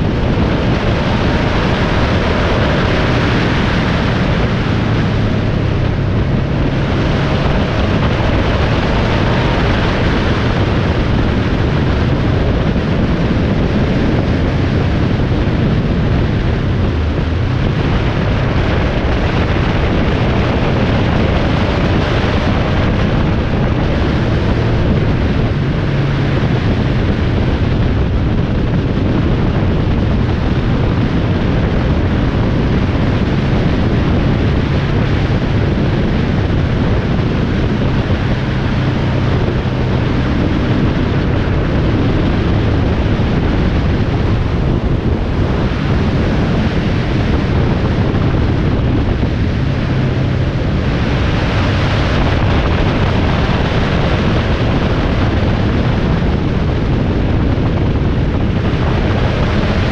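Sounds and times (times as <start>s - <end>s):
low engine hum: 0.0s - 59.9s
road and wind rush: 0.0s - 59.9s.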